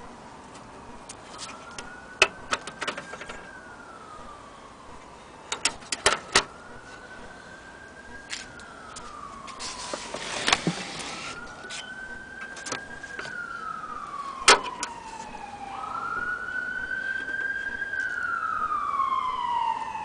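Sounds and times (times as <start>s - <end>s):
siren wailing: 0.8s - 20.0s.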